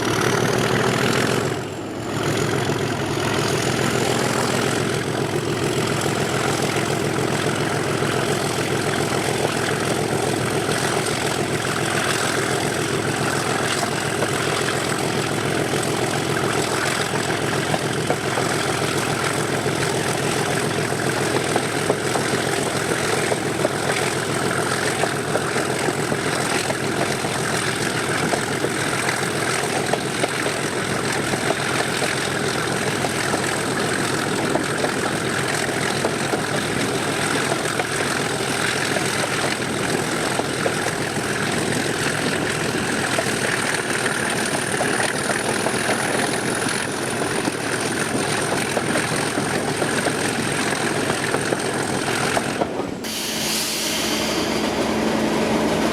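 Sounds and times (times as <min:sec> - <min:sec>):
diesel locomotive engine running: 0:00.0 - 0:55.9.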